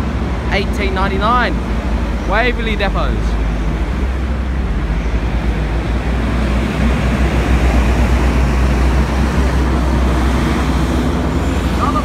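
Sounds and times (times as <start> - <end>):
bus engines rumbling: 0.0 - 12.0
traffic noise: 0.0 - 12.0.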